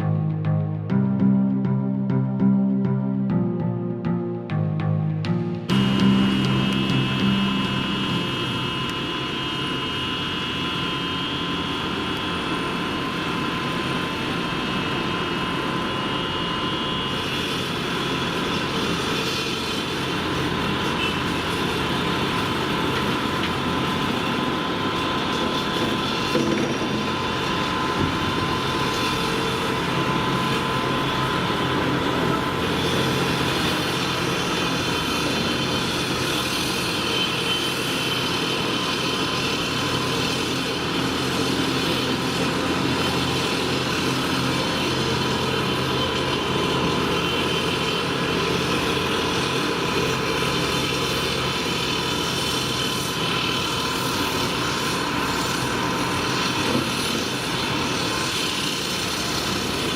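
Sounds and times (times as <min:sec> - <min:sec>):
excavator diesel engine running: 0:00.0 - 0:59.9
steady whine: 0:00.0 - 0:59.9.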